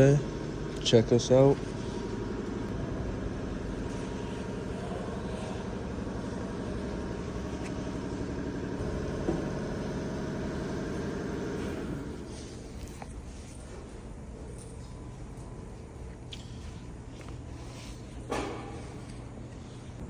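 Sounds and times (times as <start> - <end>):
machine low drone: 0.0 - 20.0.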